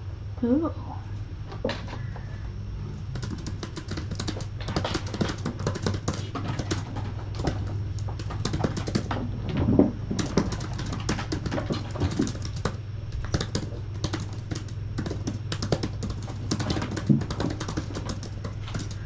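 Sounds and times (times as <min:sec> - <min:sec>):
steady low hum: 0:00.0 - 0:19.0
keyboard typing: 0:03.1 - 0:19.0.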